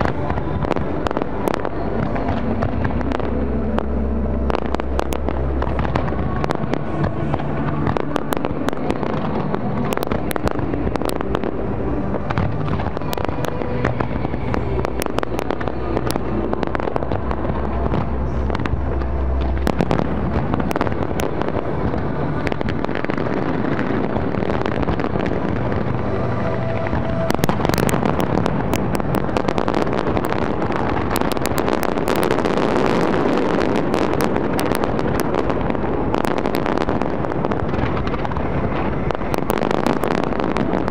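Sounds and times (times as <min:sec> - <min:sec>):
fireworks bursts and bangs: 0:00.0 - 0:40.9
fireworks crackling: 0:00.0 - 0:40.9.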